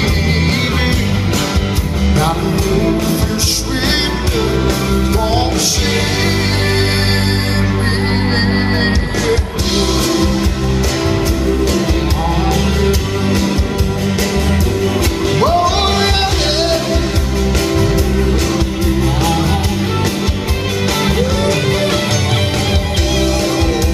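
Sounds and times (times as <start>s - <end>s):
man singing: 0.0s - 13.8s, 15.0s - 23.9s
acoustic guitar: 0.0s - 23.9s
live band playing: 0.0s - 23.9s.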